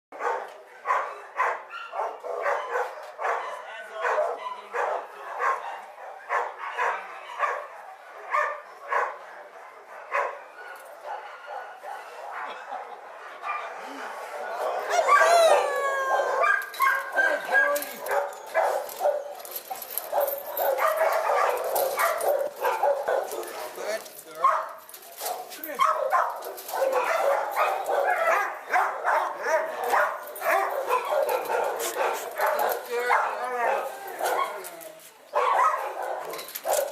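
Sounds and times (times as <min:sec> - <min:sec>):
dog barking: 0:00.1 - 0:34.6, 0:35.3 - 0:36.9.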